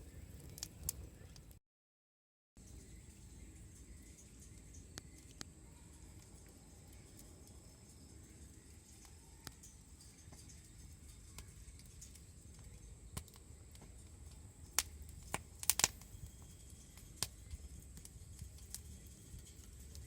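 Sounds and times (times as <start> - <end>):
campfire crackling and popping: 0.0 - 1.6, 3.0 - 20.0.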